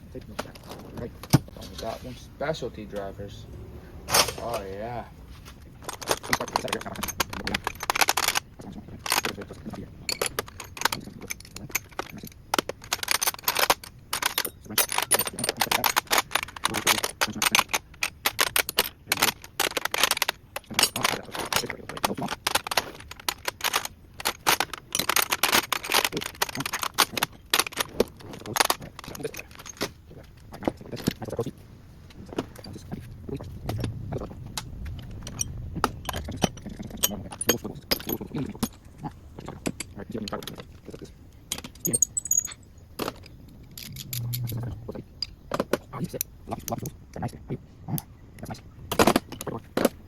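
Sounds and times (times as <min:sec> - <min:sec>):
metal hand tools clinking: 0:00.2 - 0:31.5, 0:32.1 - 0:45.4.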